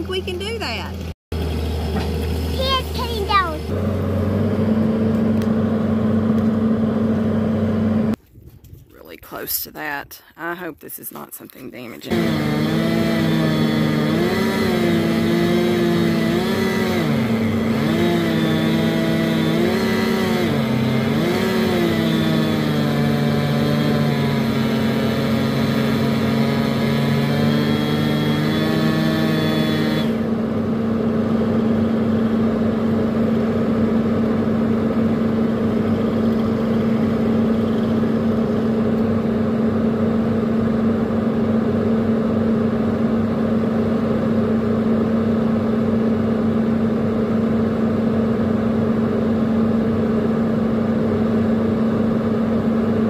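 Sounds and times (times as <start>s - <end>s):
hydraulic excavator engine: 0.0s - 8.2s, 12.0s - 53.0s.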